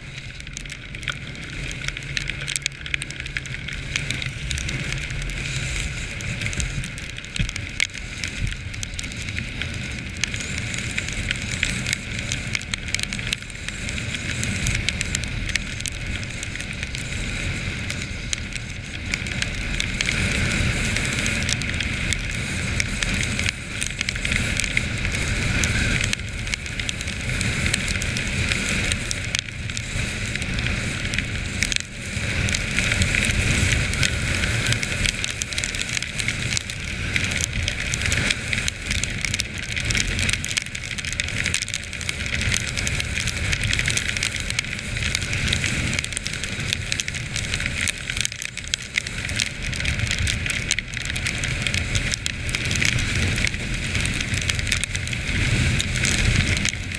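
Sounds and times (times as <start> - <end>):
crackling hiss of snow: 0.0 - 56.9.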